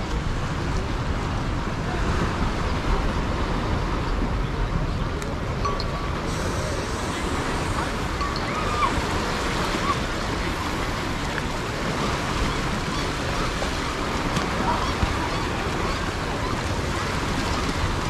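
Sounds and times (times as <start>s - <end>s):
small waves washing on beach: 0.0s - 18.0s.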